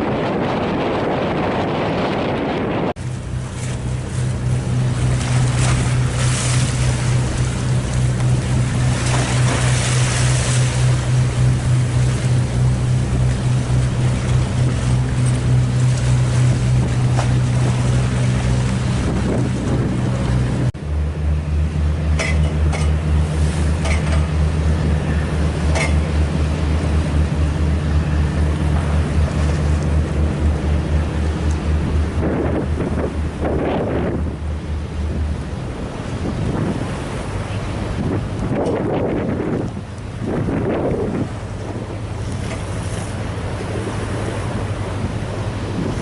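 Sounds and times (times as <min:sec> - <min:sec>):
wind buffeting microphone: 0:00.0 - 0:20.8, 0:22.4 - 0:46.0
water rushing: 0:00.0 - 0:46.0
diesel engine throbbing: 0:00.1 - 0:46.0.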